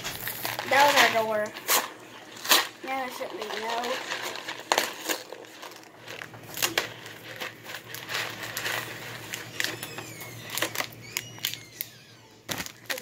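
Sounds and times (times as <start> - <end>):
plastic pouch rustling: 0.0 - 11.8
cardboard box crinkling: 0.1 - 10.9.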